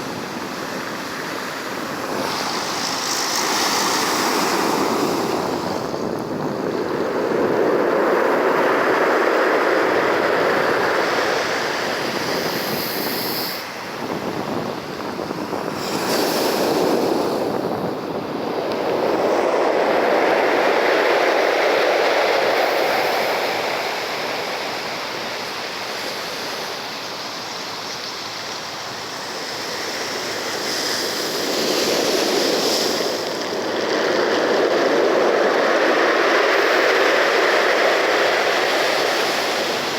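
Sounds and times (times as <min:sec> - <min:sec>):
sea waves surging: 0:00.0 - 0:39.9.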